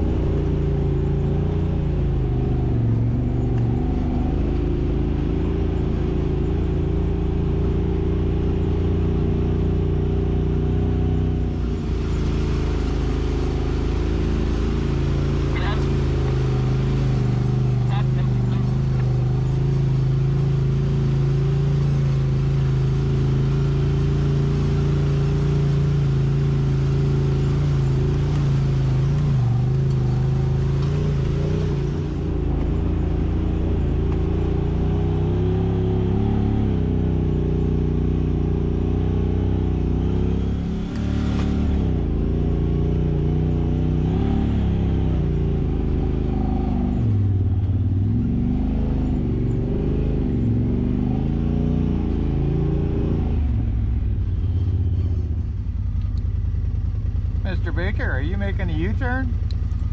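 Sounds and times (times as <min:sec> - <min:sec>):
utility vehicle engine revving: 0:00.0 - 0:59.9.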